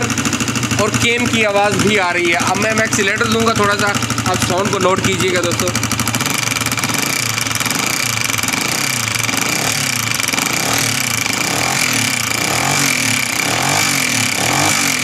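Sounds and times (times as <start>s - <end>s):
motorcycle engine running rough: 0.0s - 15.0s.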